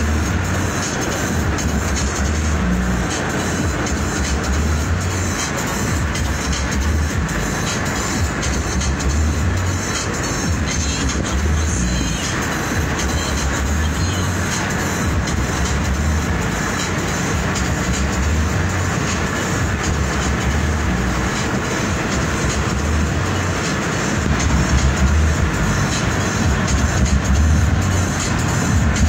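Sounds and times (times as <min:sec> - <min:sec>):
vehicle road and engine rumble: 0:00.0 - 0:29.0.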